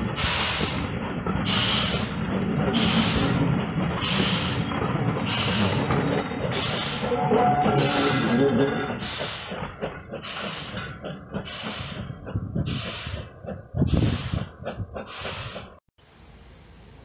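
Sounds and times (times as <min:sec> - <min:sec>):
coaches rumbling on track: 0:00.0 - 0:15.8
steam locomotive chuffing: 0:00.0 - 0:15.8.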